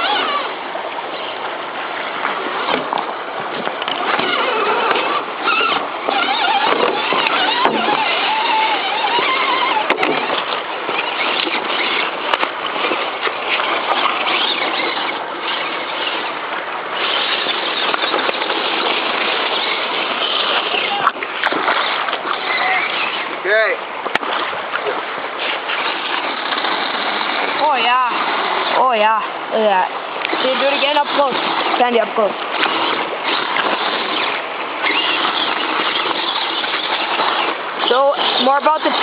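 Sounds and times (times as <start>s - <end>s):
electric motor and gears whining: 0.0s - 1.4s, 2.4s - 23.6s, 25.2s - 29.2s, 30.2s - 39.0s
creek water rushing over rocks: 0.0s - 39.0s.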